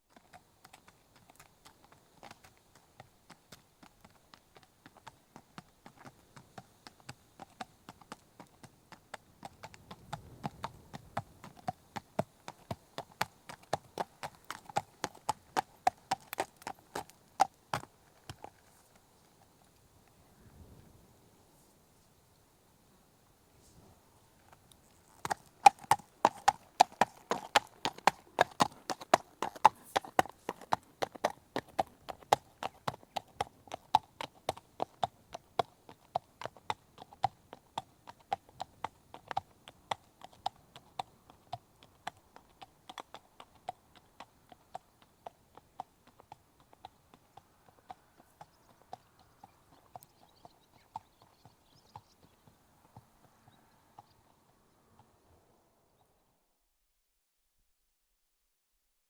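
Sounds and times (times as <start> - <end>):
horse hooves on tarmac: 0.1 - 19.6, 24.4 - 55.1.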